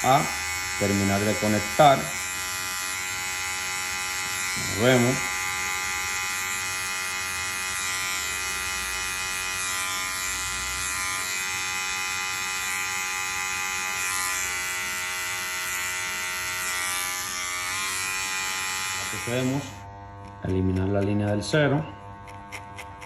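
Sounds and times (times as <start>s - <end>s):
electric hair clipper humming: 0.0s - 23.0s.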